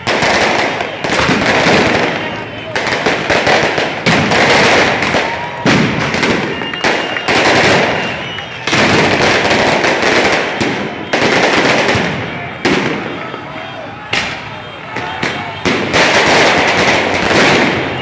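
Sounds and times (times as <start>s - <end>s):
firecrackers banging with echo: 0.0s - 18.0s.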